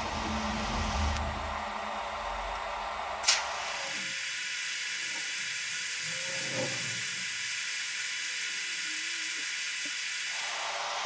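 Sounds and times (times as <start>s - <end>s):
welding arc hissing: 0.0s - 11.0s.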